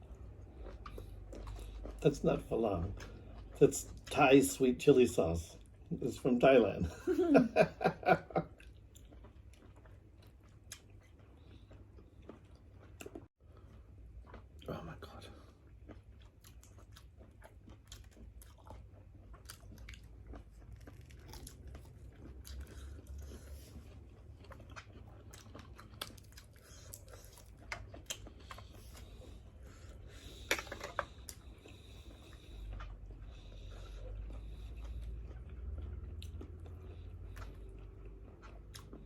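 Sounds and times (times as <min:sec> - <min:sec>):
people chewing seafood: 0:00.0 - 0:39.0.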